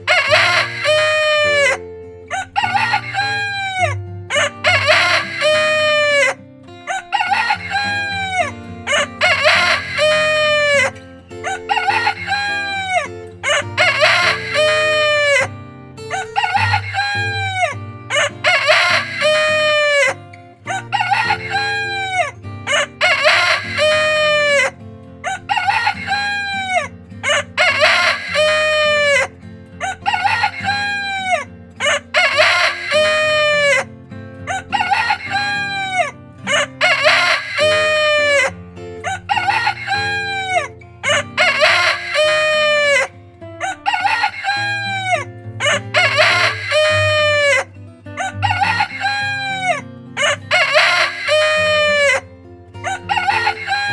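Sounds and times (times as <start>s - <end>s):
roosters crowing: 0.0s - 15.5s, 16.1s - 33.9s, 34.5s - 52.2s, 52.8s - 53.9s.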